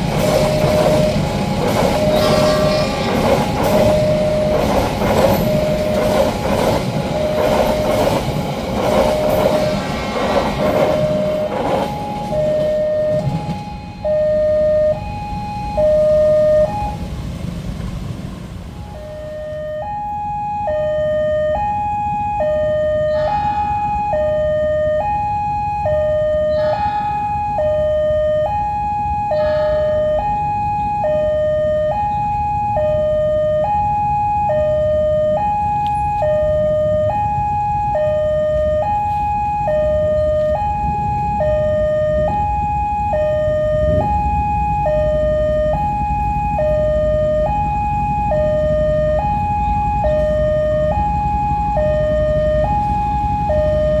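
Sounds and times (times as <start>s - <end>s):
level crossing two-tone alarm: 0.0s - 17.0s, 18.8s - 54.0s.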